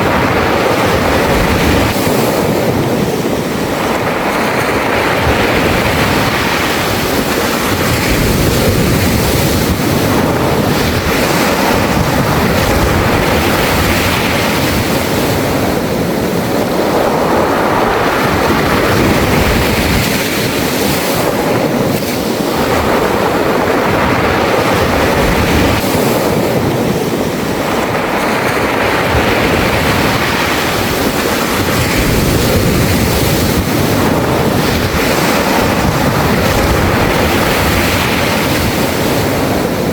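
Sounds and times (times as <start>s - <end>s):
waves washing over pebbles: 0.0s - 39.9s.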